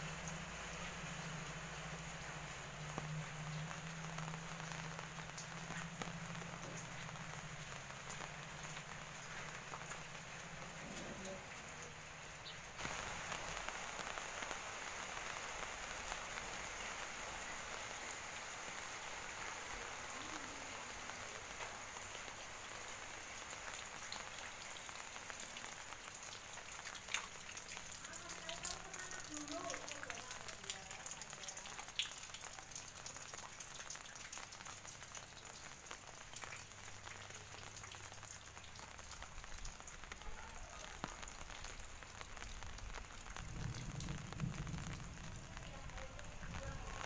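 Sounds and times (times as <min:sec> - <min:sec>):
rain on roofs and pavement: 0:00.0 - 0:47.0.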